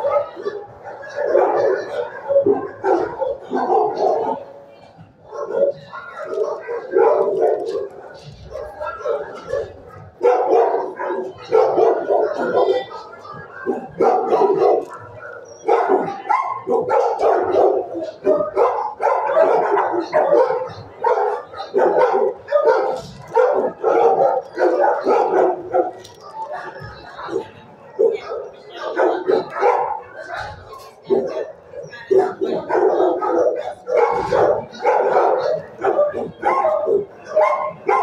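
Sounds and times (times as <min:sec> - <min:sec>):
dogs barking: 0:00.0 - 0:38.0.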